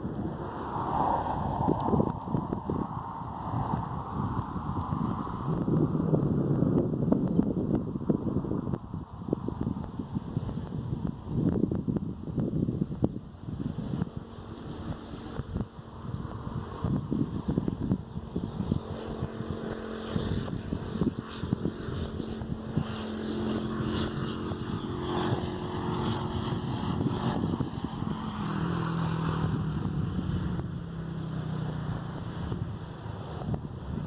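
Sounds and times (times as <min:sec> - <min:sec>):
steady engine drone: 0:00.0 - 0:34.0
wind gusting on microphone: 0:00.0 - 0:34.0.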